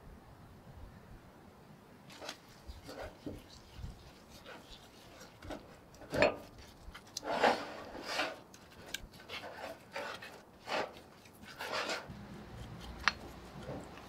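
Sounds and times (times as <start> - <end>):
wet scraping on metal: 2.1 - 14.0.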